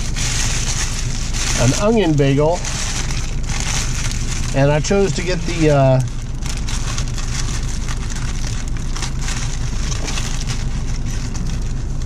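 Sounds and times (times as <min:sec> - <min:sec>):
low rumble: 0:00.0 - 0:12.0
paper wrapper crinkling: 0:00.0 - 0:12.0.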